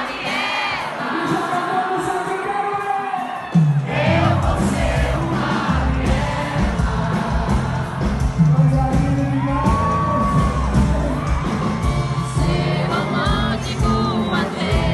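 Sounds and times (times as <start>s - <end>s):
crowd whooping and yelling: 0.0s - 5.7s, 8.0s - 14.9s
live band with singer: 0.0s - 14.9s.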